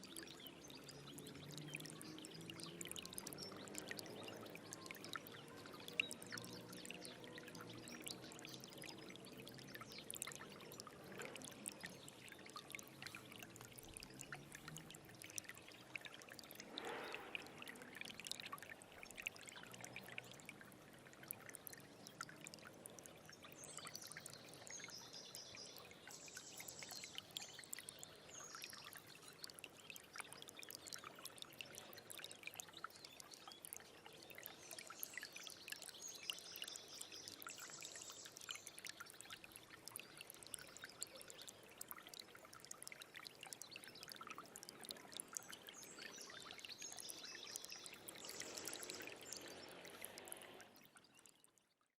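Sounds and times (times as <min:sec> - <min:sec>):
small stream trickling: 0:00.0 - 0:51.9.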